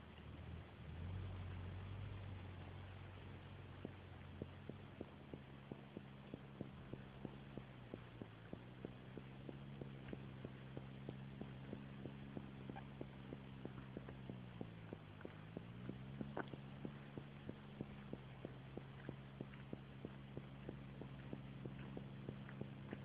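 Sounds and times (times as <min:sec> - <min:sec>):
tractor diesel engine running: 0:01.1 - 0:23.0
regular sharp clicking: 0:02.3 - 0:23.0.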